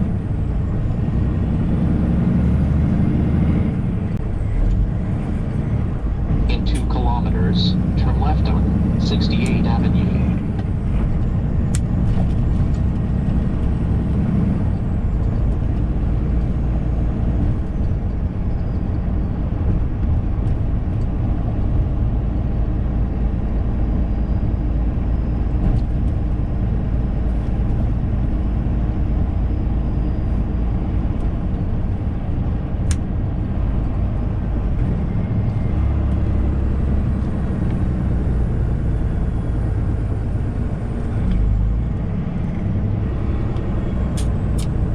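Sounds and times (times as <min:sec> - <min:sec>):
truck engine and road noise: 0:00.0 - 0:44.9.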